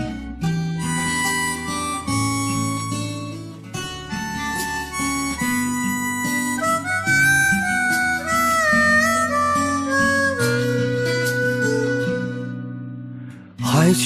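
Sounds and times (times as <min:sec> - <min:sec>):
sustained lead melody: 0:00.0 - 0:13.3
guitar and bass accompaniment: 0:00.0 - 0:14.0.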